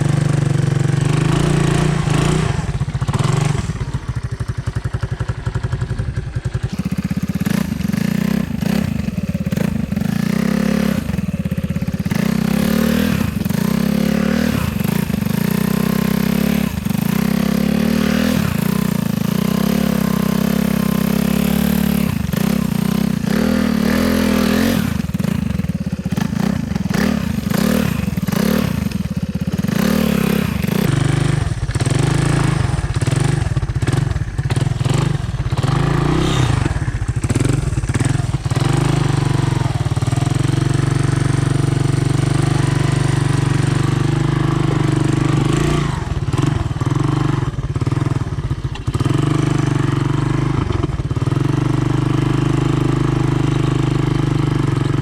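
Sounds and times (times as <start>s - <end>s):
three-wheeler engine running: 0.0s - 55.0s.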